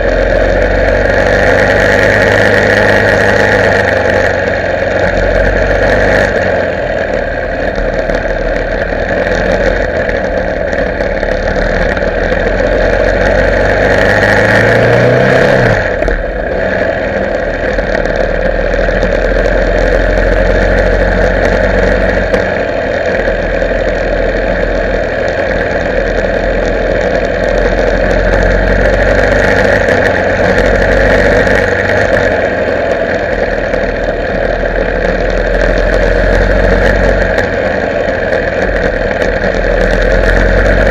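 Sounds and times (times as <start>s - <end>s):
motorcycle engine running: 0.0s - 40.9s
steady rushing noise: 0.0s - 40.9s.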